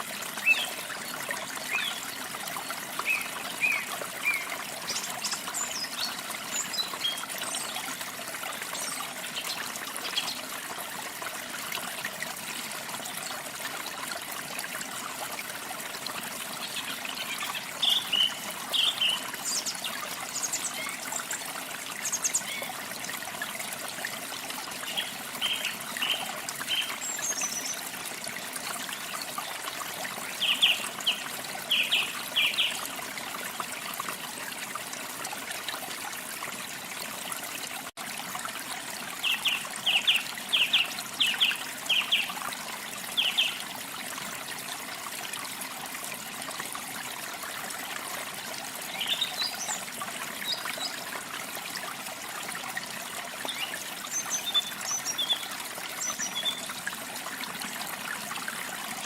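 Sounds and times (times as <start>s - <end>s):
stream water trickling: 0.0s - 59.0s.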